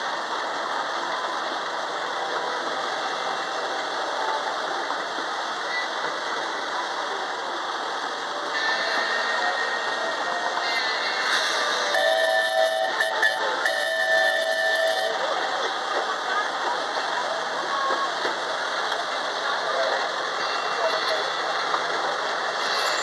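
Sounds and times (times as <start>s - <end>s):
train clatter and rumble: 0.0s - 23.0s.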